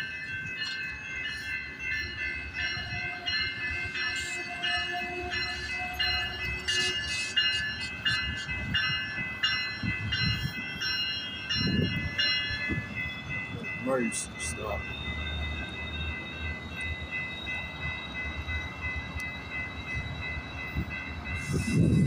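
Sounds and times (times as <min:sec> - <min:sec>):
bell ringing: 0:00.0 - 0:22.0
train rumbling: 0:00.0 - 0:22.0.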